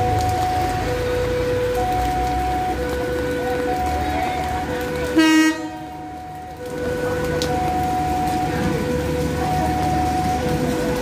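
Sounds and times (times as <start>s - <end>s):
two-tone crossing alarm: 0.0s - 11.0s.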